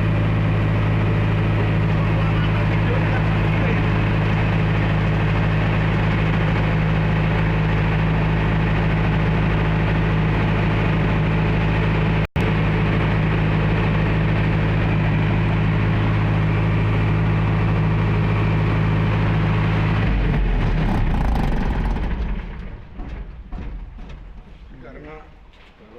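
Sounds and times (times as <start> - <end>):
generator humming: 0.0 - 25.9.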